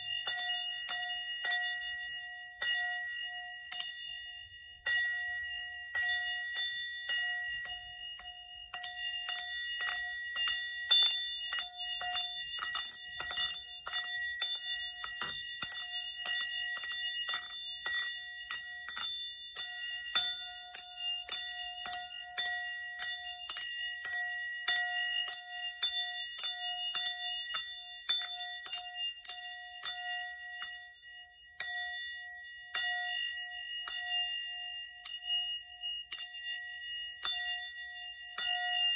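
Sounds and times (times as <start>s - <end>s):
small bells striking bowl: 0.0s - 38.9s
sound bowl humming: 0.0s - 38.9s.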